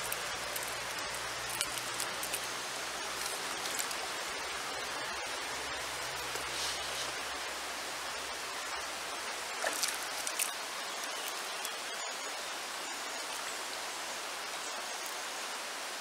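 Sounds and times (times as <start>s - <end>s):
river water rippling over stones: 0.0s - 15.2s.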